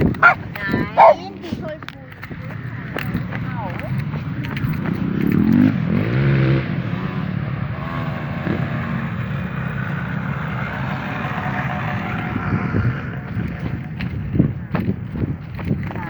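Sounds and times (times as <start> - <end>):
two-stroke engine buzzing: 0.0 - 1.4, 2.1 - 16.0.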